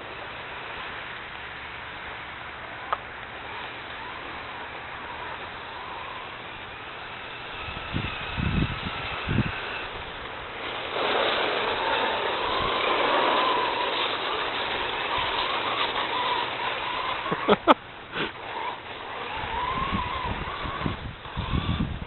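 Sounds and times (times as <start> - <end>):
steady rushing noise: 0.0 - 22.0
toy car motor whine: 3.5 - 22.0.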